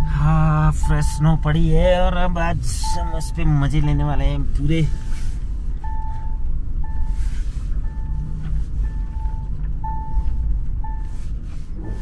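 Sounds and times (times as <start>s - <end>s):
electronic warning chime beeps: 0.0s - 2.0s, 2.7s - 11.2s
car engine and tyres rumbling: 0.0s - 12.0s.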